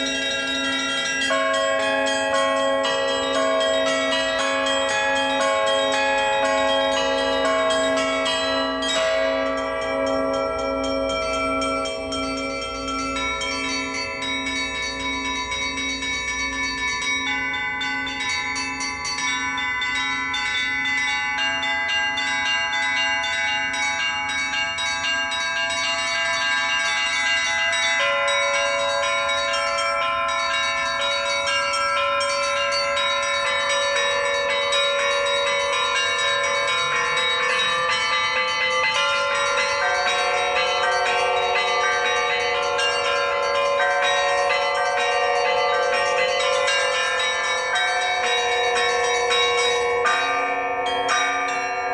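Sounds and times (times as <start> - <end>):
church bells ringing in a peal: 0.0 - 51.9.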